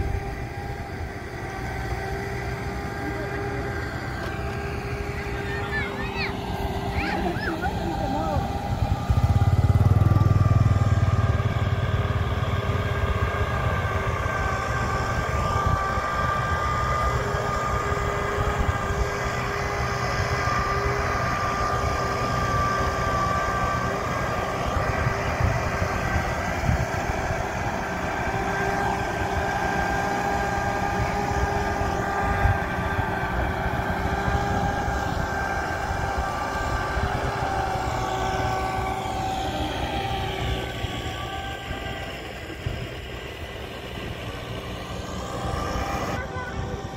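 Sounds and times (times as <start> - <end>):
diesel tractor engine running: 0.0 - 46.9
steady machine whine: 0.0 - 46.9.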